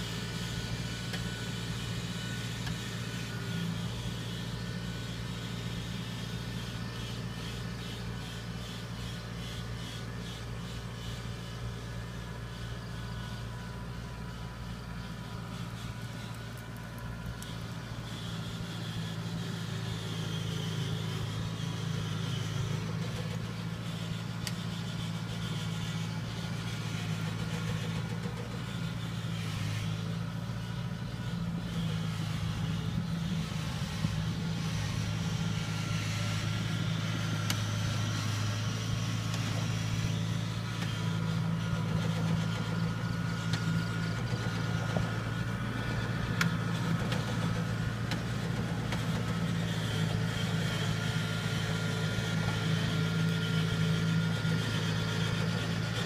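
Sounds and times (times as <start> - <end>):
combine harvester engine humming: 0.0 - 56.0.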